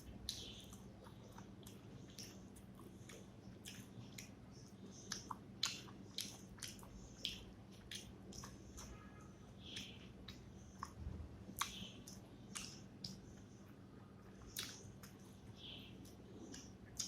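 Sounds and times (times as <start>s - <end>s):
wet chewing mouth sounds: 0.0s - 9.0s, 9.7s - 13.5s, 14.4s - 17.0s.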